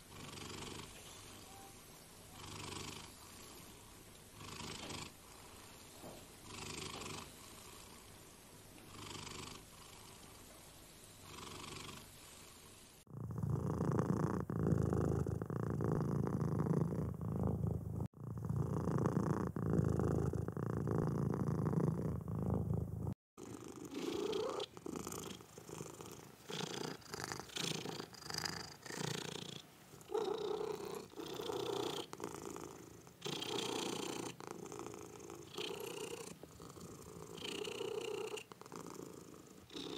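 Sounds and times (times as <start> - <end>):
cat purring: 0.0 - 1.7, 2.3 - 5.8, 6.4 - 8.1, 8.8 - 10.4, 11.2 - 39.9.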